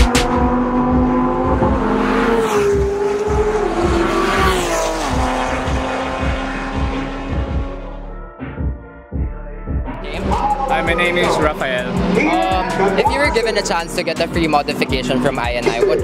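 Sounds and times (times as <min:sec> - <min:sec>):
sports car engine passing: 0:00.0 - 0:08.1, 0:10.2 - 0:16.0.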